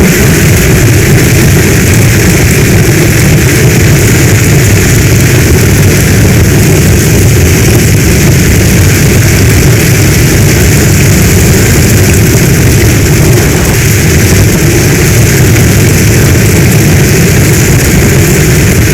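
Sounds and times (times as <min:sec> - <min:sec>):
heavy rain pouring: 0:00.0 - 0:18.9
low rumble: 0:00.0 - 0:18.9.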